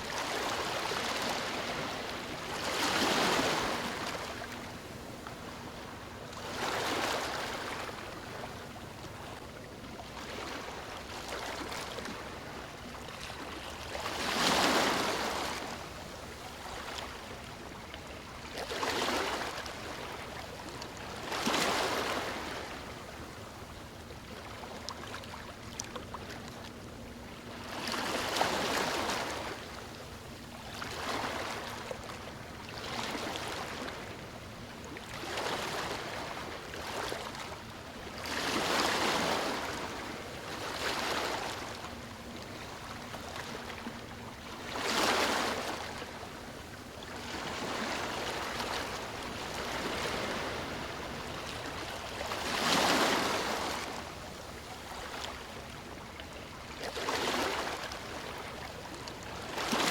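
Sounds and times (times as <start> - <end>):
sea waves breaking: 0.0 - 9.4, 10.2 - 17.4, 27.4 - 59.9.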